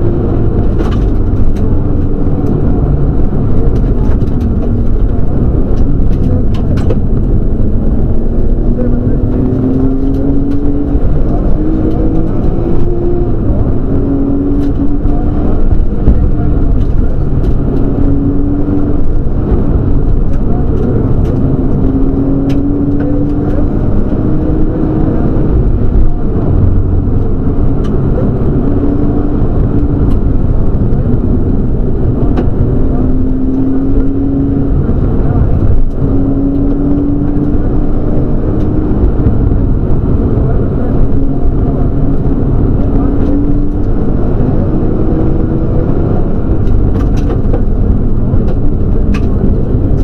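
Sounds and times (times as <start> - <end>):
car engine accelerating: 0.0 - 50.0
road and tyre noise: 0.0 - 50.0.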